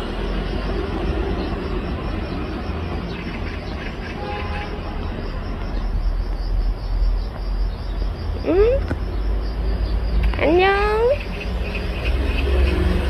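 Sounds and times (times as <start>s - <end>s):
steady low rumble: 0.0s - 12.7s
insect chirping: 0.0s - 13.0s.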